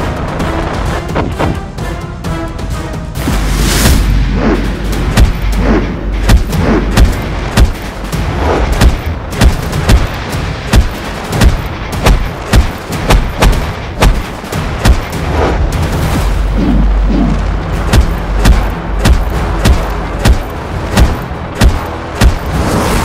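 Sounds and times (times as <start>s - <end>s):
deep rumble: 3.2s - 23.0s
sharp booming fight hits: 3.2s - 23.0s.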